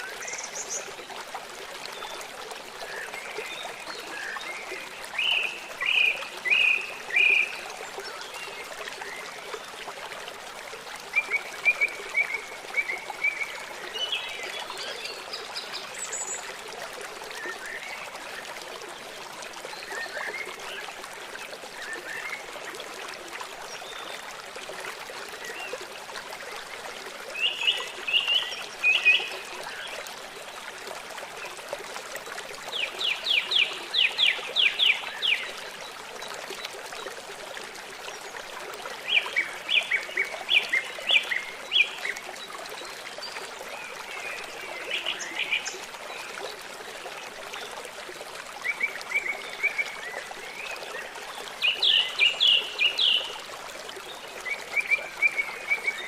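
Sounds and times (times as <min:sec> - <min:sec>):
trickling running water: 0:00.0 - 0:56.0.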